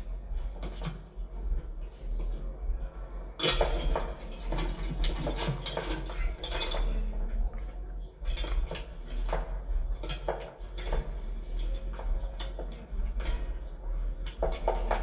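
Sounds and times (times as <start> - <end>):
steady low rumble: 0.0 - 5.3, 6.2 - 15.0.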